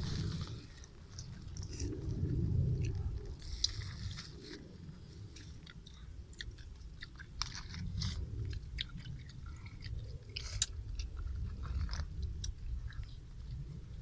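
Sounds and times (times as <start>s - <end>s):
chewing: 0.0s - 14.0s
low rumble: 0.0s - 14.0s.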